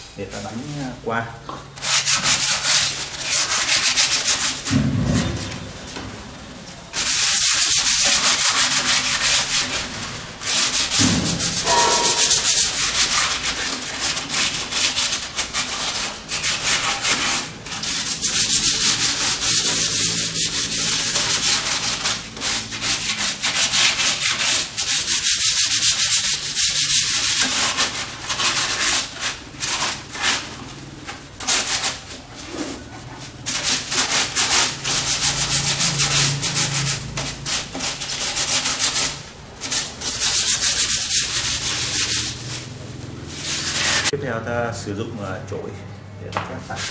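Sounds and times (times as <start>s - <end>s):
sandpaper rubbing cement: 1.8s - 5.8s, 6.9s - 44.2s, 46.6s - 46.9s.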